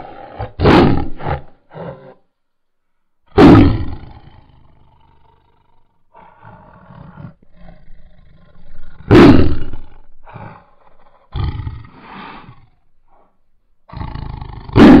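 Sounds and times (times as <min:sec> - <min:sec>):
tiger growling: 0:00.0 - 0:02.3, 0:03.3 - 0:12.8, 0:13.9 - 0:15.0
tiger roaring: 0:00.0 - 0:02.3, 0:03.3 - 0:12.8, 0:13.9 - 0:15.0.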